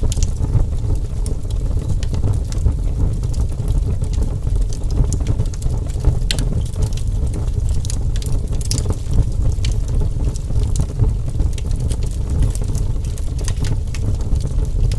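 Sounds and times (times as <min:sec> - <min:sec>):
fire pops and snaps: 0:00.0 - 0:14.9
wood fire crackling: 0:00.0 - 0:14.9.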